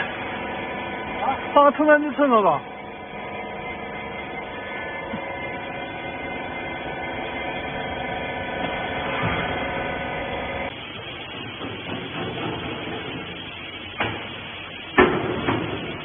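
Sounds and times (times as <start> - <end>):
factory machinery hum: 0.0 - 16.0.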